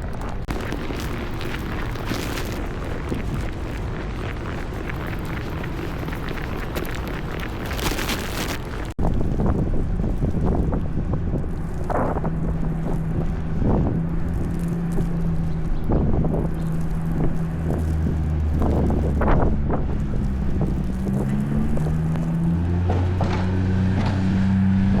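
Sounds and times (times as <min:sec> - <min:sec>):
traffic engine hum: 0:00.0 - 0:25.0
wind rumbling on microphone: 0:00.0 - 0:25.0.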